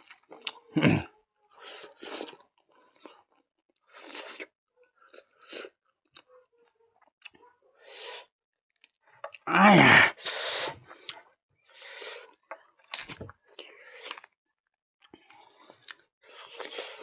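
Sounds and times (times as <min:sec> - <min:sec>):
chewing and crunching food: 0:00.0 - 0:09.5, 0:10.8 - 0:17.0.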